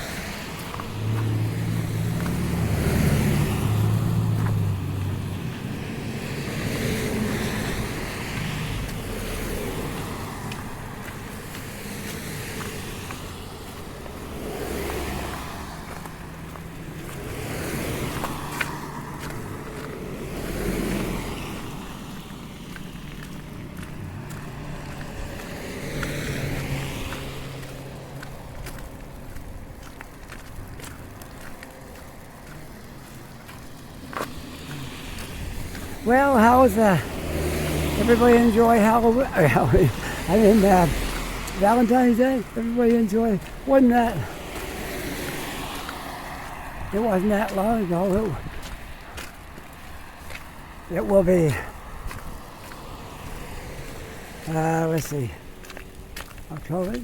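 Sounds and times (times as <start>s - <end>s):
traffic passing on wet street: 0.0s - 57.0s.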